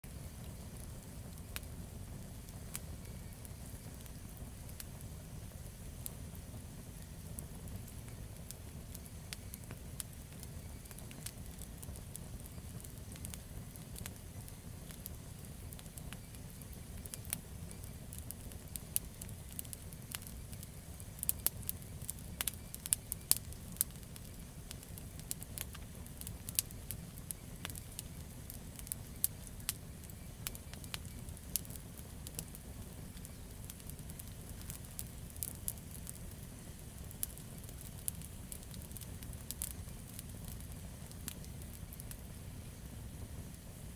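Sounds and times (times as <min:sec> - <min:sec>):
burning logs crackling and popping: 0:00.0 - 0:43.9
campfire flames rumbling: 0:00.0 - 0:43.9.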